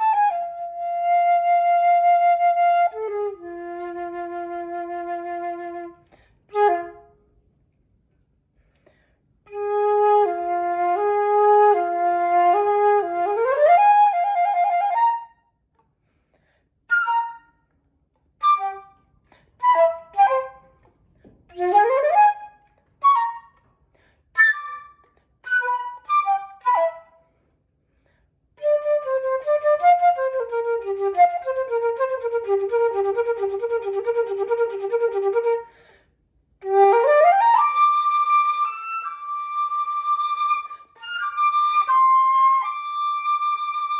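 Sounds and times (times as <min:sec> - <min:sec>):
solo flute playing: 0:00.0 - 0:07.5, 0:09.5 - 0:15.6, 0:16.9 - 0:17.7, 0:18.4 - 0:20.9, 0:21.5 - 0:23.6, 0:24.4 - 0:27.4, 0:28.6 - 0:35.8, 0:36.6 - 0:43.9.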